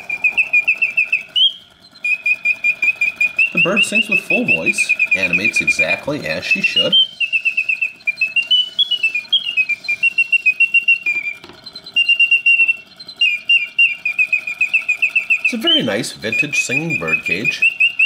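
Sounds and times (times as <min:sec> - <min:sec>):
mechanical bird whistling trills: 0:00.0 - 0:18.0.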